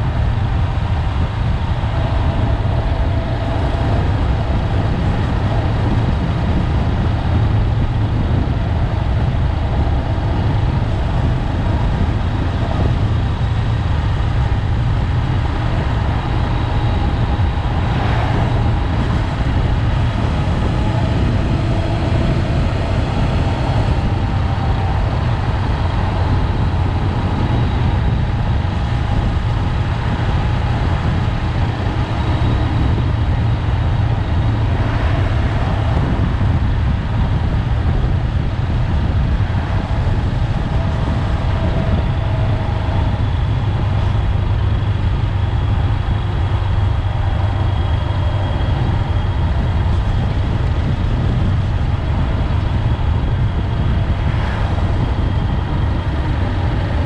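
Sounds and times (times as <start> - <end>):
motorcycle engine drone: 0.0 - 57.0
wind and road noise: 0.0 - 57.0.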